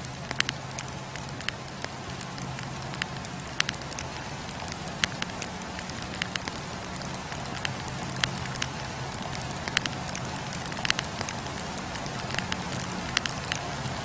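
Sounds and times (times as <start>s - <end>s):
firewood popping and crackling: 0.0s - 14.0s
flames hissing and rumbling: 0.0s - 14.0s.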